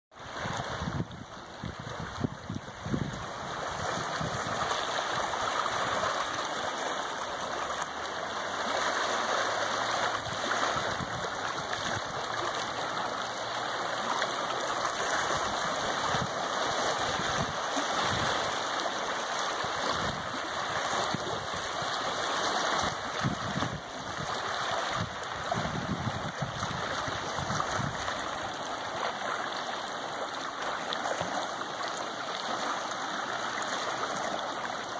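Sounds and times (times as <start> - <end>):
waves lapping against rocks: 0.1 - 34.9.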